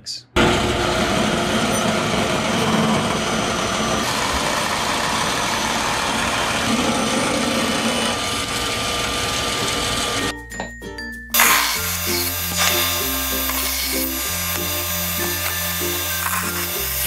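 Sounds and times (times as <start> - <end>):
bandsaw cutting wood: 0.4 - 10.3, 11.4 - 17.0.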